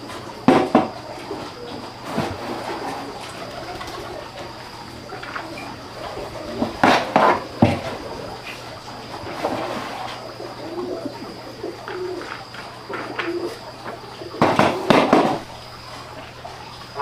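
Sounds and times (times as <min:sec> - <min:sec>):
bird cooing: 0:00.0 - 0:17.0.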